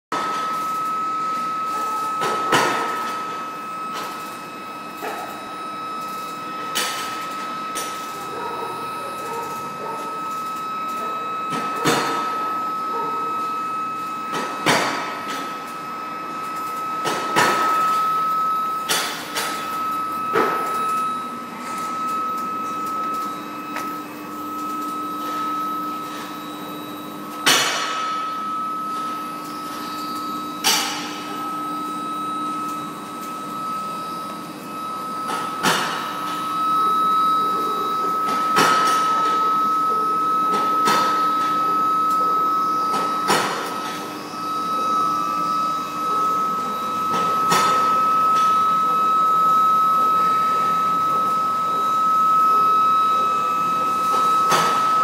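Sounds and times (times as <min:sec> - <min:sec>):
printing machine whine: 0:00.1 - 0:55.0.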